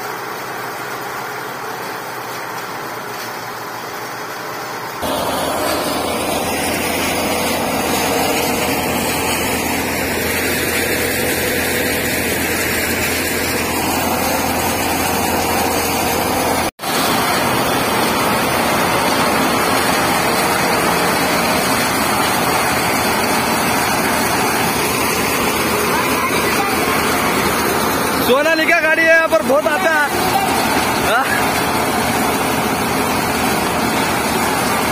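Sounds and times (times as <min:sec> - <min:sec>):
thresher running under load: 0:00.0 - 0:34.9
tractor engine hum: 0:00.0 - 0:34.9.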